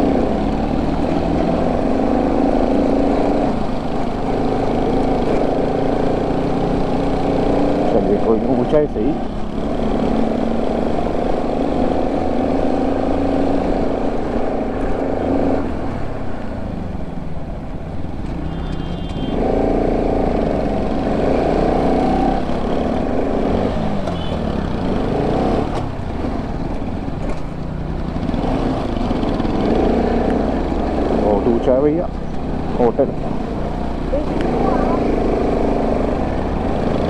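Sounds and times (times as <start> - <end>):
motorcycle engine pulling uphill: 0.0 - 16.2, 19.3 - 37.0.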